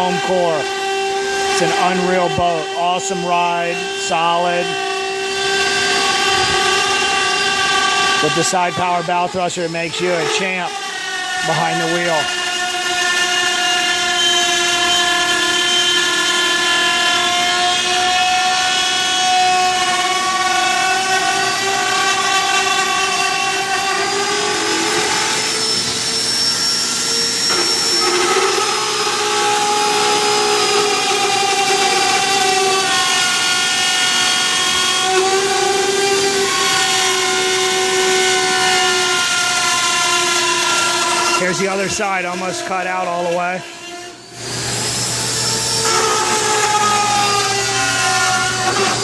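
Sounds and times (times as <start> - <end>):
power cutting tool whining: 0.0 - 49.0.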